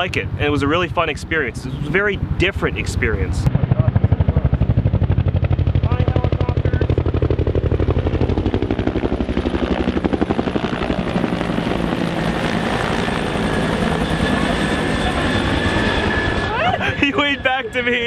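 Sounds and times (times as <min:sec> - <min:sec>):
helicopter rotor thumping: 0:00.0 - 0:17.0.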